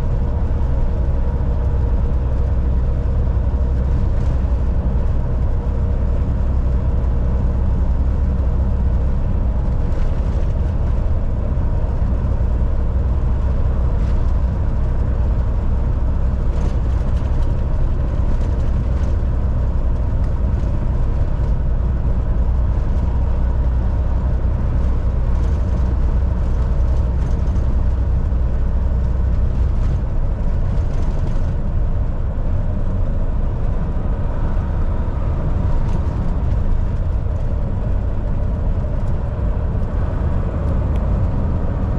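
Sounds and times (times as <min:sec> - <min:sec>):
road noise: 0:00.0 - 0:41.9
truck diesel engine cruising: 0:00.0 - 0:41.9.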